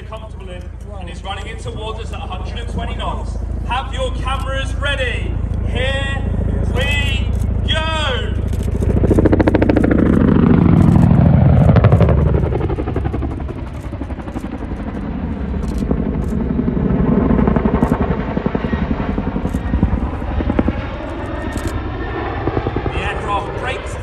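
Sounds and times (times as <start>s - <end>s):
helicopter rotors chopping: 0.0s - 24.0s.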